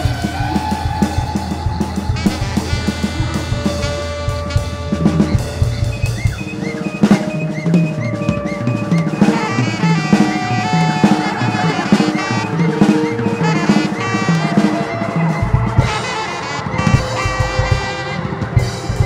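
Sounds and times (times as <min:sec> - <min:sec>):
bass: 0:00.0 - 0:19.0
drum kit: 0:00.0 - 0:19.0
electric guitar: 0:00.0 - 0:19.0
saxophone long held lines: 0:00.0 - 0:19.0.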